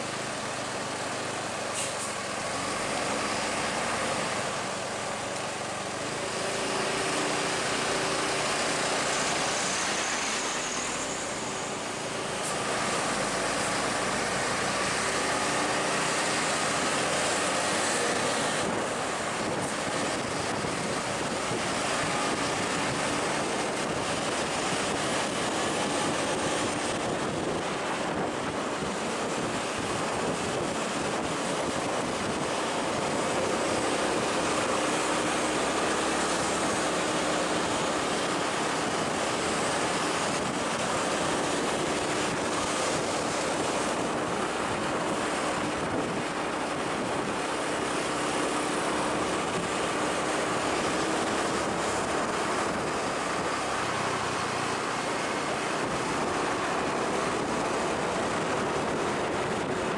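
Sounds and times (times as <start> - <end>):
large vehicle engine humming: 0.0 - 59.9.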